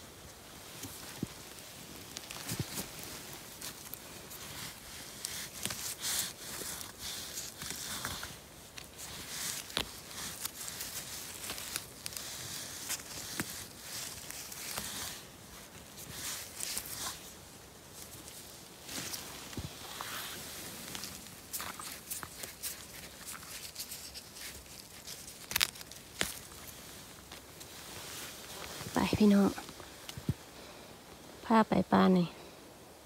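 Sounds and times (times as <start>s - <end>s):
footsteps on soft forest floor: 0.0s - 31.3s
mushrooms plucked from moss: 0.1s - 31.5s.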